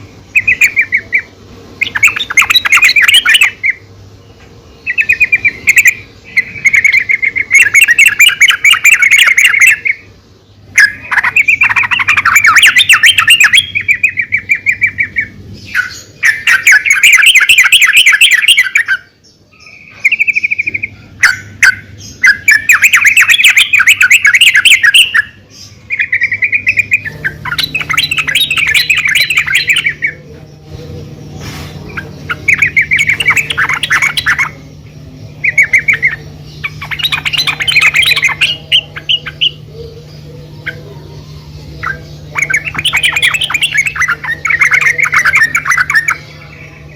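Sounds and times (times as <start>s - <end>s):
bulbul chattering call: 0.0s - 46.9s.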